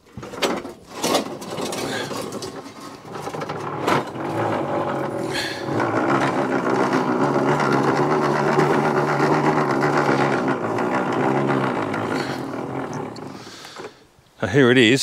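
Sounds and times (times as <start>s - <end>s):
lawnmower rollers whirring and clattering: 0.0s - 14.1s.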